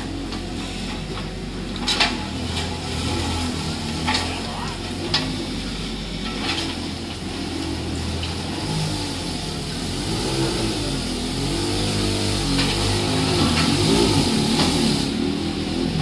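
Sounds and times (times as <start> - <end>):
excavator diesel engine under load: 0.0 - 16.0.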